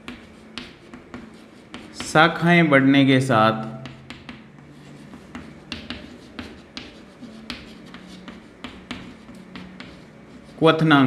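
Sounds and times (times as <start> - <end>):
chalk tapping and scratching: 0.0 - 2.5, 3.5 - 11.0.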